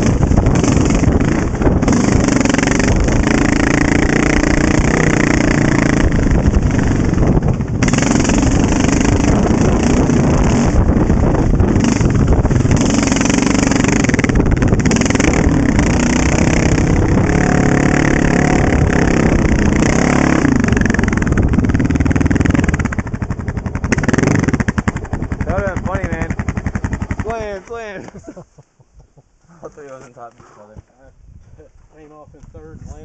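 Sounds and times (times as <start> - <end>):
quad engine revving: 0.0 - 28.2.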